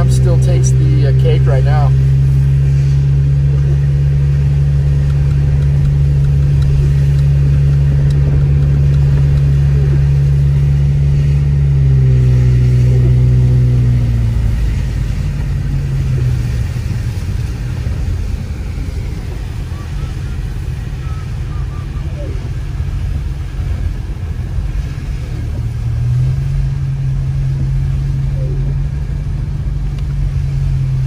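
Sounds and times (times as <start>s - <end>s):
car engine droning inside cabin: 0.0s - 31.0s.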